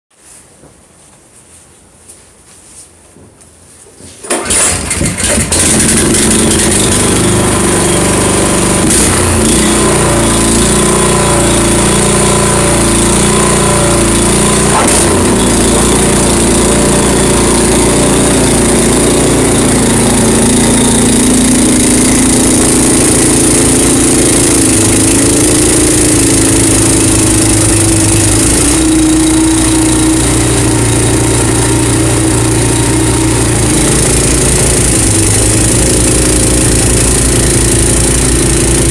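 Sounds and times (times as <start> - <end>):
snowblower engine running: 4.2 - 38.9
snowblower throwing snow: 4.2 - 38.9.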